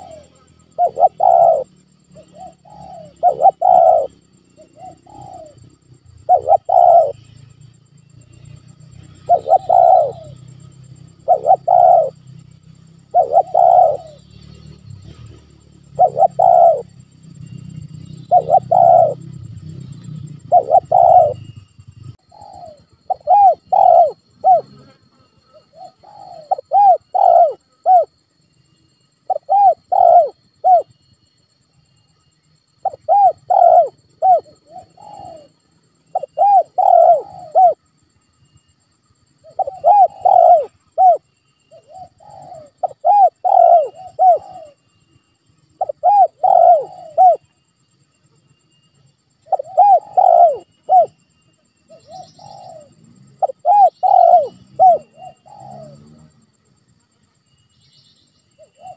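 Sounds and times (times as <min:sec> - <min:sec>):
dove cooing: 0:00.0 - 0:07.4, 0:08.4 - 0:28.2, 0:29.2 - 0:31.1, 0:32.8 - 0:37.9, 0:39.4 - 0:44.9, 0:45.8 - 0:47.5, 0:49.4 - 0:51.2, 0:51.9 - 0:56.5, 0:58.6 - 0:58.9.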